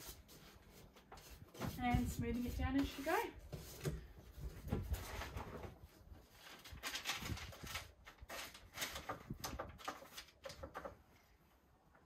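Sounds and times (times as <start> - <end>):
paper strips rustling and crinkling: 0.0 - 11.0.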